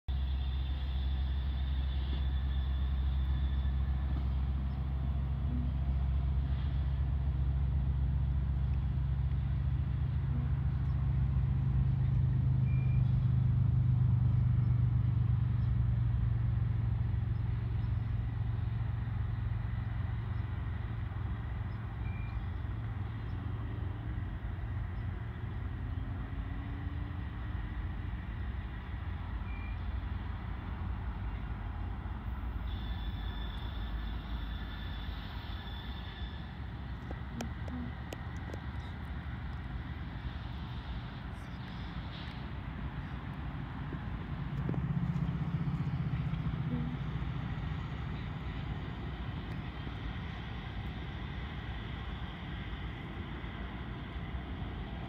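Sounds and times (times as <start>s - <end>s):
distant diesel locomotive rumble: 0.0s - 55.0s.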